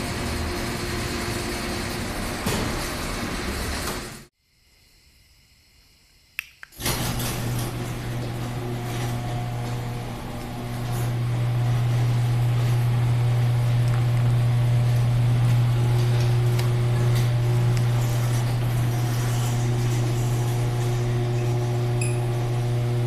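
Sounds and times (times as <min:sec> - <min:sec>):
garage door opener humming: 0:00.0 - 0:04.3, 0:06.8 - 0:23.0.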